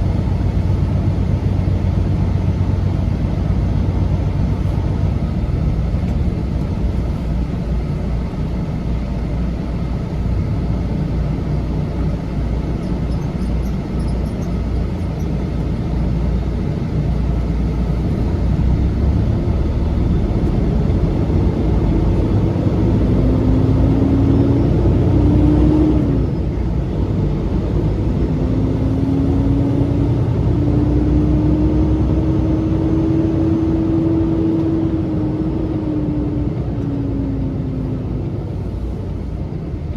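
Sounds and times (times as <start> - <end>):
truck diesel engine rumbling: 0.0 - 39.9.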